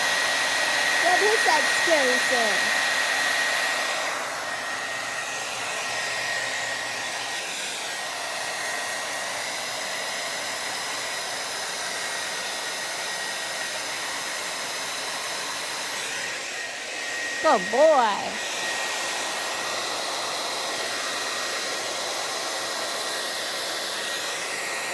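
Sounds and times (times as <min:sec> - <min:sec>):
hair dryer blowing: 0:00.0 - 0:24.9.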